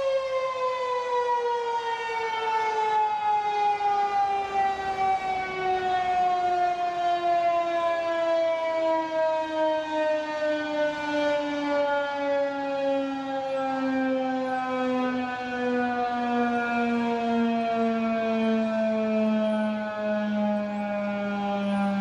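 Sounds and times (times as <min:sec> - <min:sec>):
warning siren steady tone: 0:00.0 - 0:22.0.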